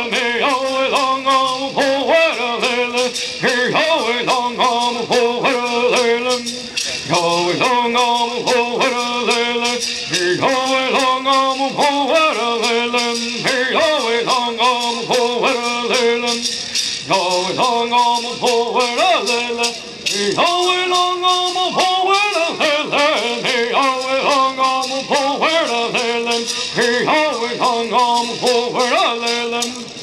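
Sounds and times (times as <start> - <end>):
gourd rattles shaking: 0.0 - 30.0
men singing in unison: 0.0 - 30.0.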